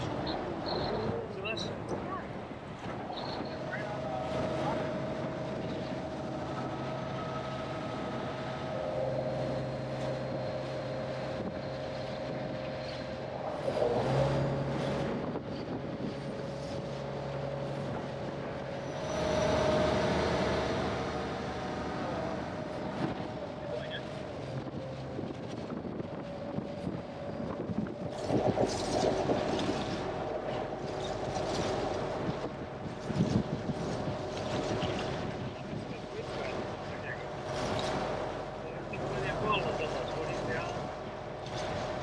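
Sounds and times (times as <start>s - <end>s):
boat engine running: 0.0s - 42.0s
water rushing along hull: 0.0s - 42.0s.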